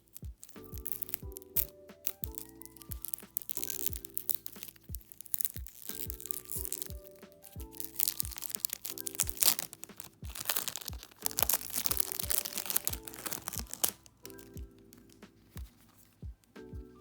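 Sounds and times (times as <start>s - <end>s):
packaging crinkling: 0.0s - 16.6s
soft background music: 0.0s - 17.0s.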